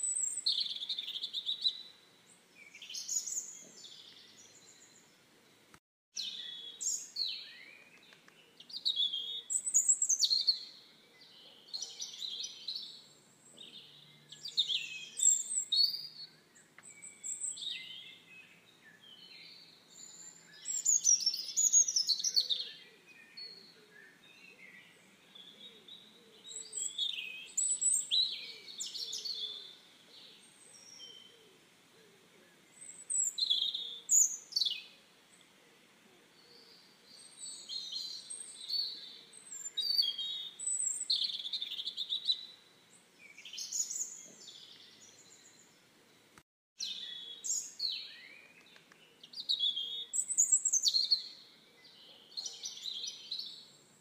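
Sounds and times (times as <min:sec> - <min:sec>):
birds chirping and singing: 0:00.0 - 0:05.6, 0:06.2 - 0:42.6, 0:43.2 - 0:54.0.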